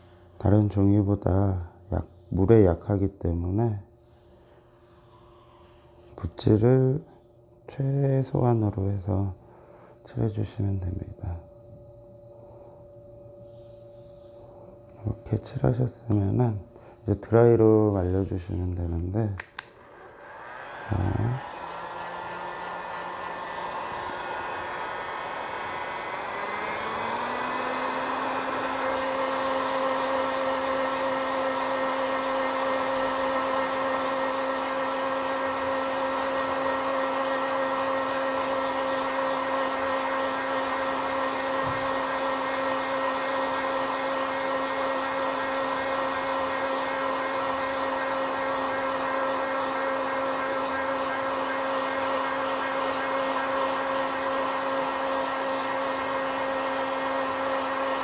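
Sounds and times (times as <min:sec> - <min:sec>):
heat gun fan whine: 0:00.0 - 0:58.0.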